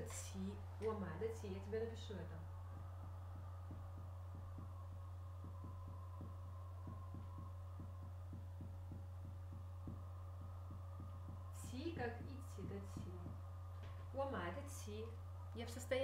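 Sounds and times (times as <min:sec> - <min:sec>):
faint high steady tone: 0:00.0 - 0:16.0
low electrical hum: 0:00.0 - 0:16.0.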